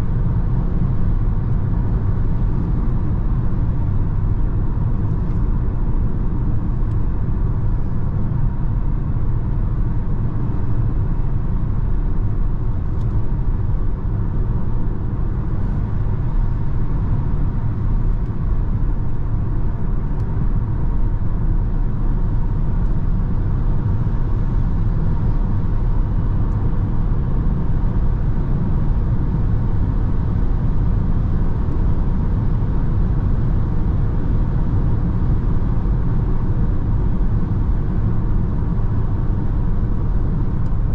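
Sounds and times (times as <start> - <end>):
wind noise inside car: 0.0 - 40.9.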